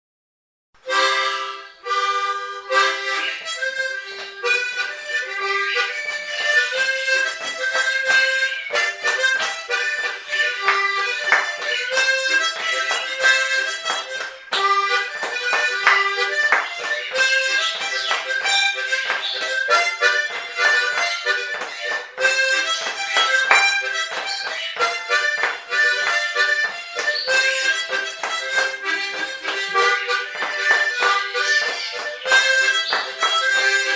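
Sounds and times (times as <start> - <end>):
harmonica playing lively tune: 0.8 - 33.9.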